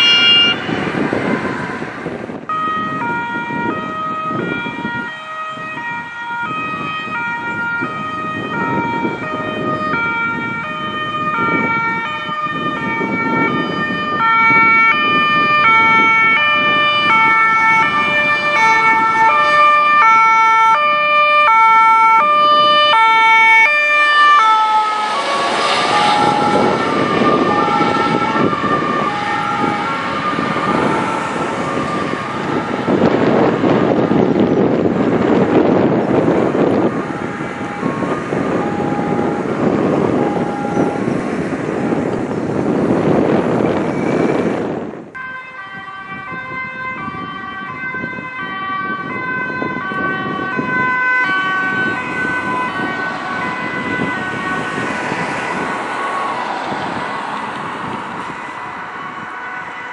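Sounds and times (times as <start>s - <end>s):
ambulance two-tone siren: 0.0s - 59.9s
engine and tyre noise: 0.0s - 59.9s.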